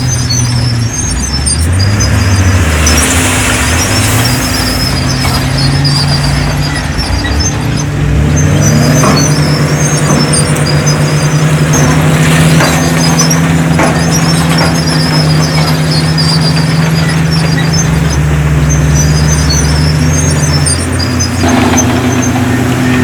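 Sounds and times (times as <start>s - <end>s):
heavy diesel machinery engine: 0.0s - 23.0s
high-pitched squeaks: 0.0s - 23.0s
metal clanks: 0.0s - 23.0s.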